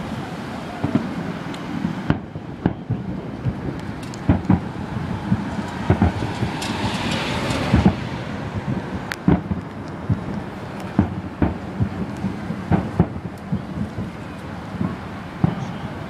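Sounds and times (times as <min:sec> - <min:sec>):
car road noise: 0:00.0 - 0:16.0
distant fireworks booming: 0:00.0 - 0:16.0.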